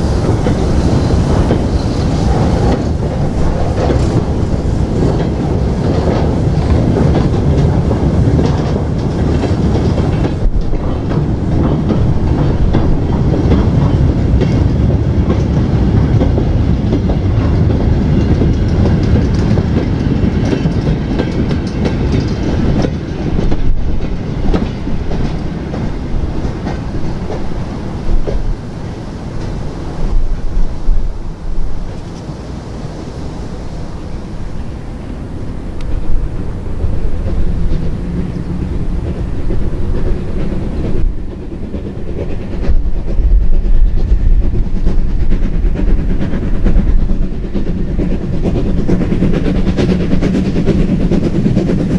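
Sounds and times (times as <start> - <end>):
train wheels clicking on rails: 0.0 - 51.9.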